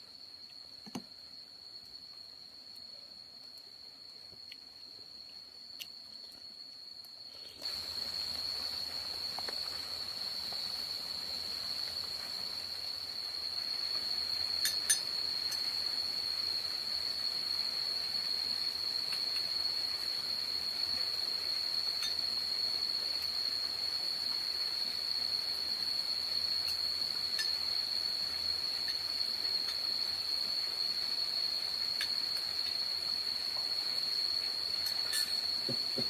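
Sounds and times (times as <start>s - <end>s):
background hiss: 0.0s - 36.0s
insects droning: 0.0s - 36.0s.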